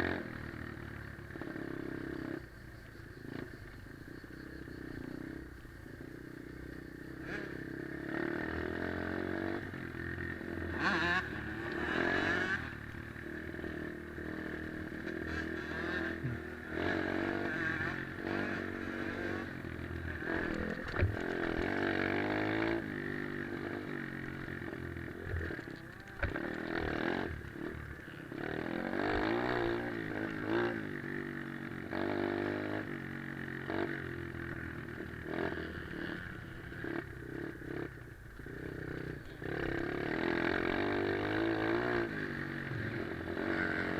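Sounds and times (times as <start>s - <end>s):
small motorbike engine revving: 0.0s - 2.5s, 3.2s - 43.9s.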